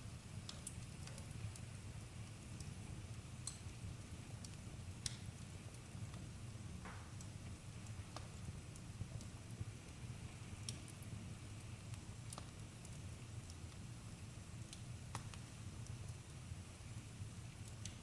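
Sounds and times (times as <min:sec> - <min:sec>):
campfire rumble: 0:00.0 - 0:18.0
wood crackling and popping: 0:00.0 - 0:18.0.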